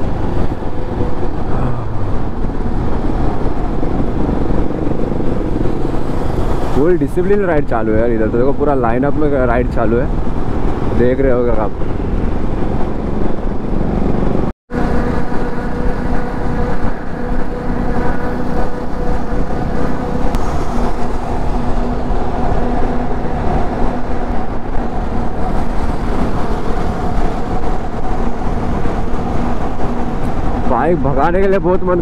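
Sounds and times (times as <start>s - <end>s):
motorcycle engine hum: 0.0s - 32.0s
wind rushing over microphone: 0.0s - 32.0s.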